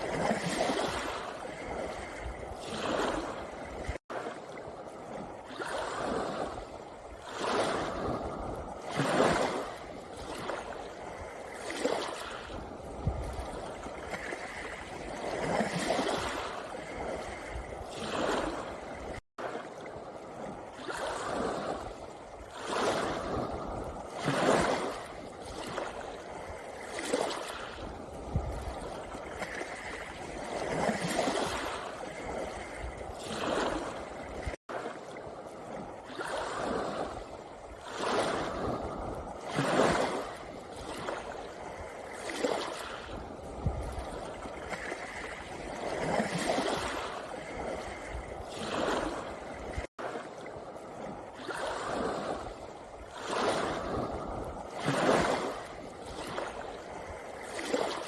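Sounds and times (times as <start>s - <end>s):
waves breaking on pebble beach: 0.0s - 58.0s.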